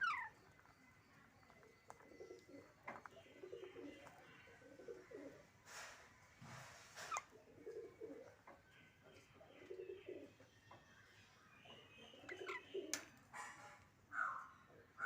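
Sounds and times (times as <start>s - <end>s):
faint low bird calls: 0.0s - 15.0s.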